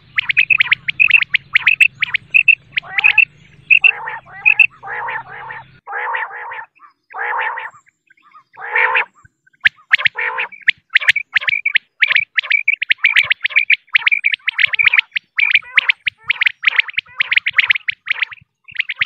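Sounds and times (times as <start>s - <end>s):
quail calling: 0.0s - 19.0s.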